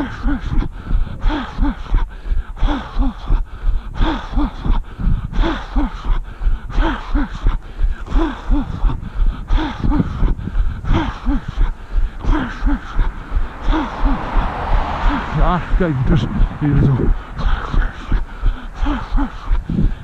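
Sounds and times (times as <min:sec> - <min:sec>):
heavy rhythmic breathing: 0:00.0 - 0:20.0.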